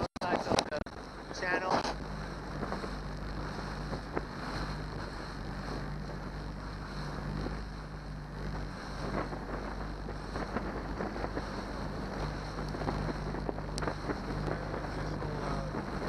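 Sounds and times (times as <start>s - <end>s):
hull slapping choppy water: 0.0s - 16.0s
outboard motor humming: 0.0s - 16.0s
wind buffeting microphone: 0.0s - 16.0s.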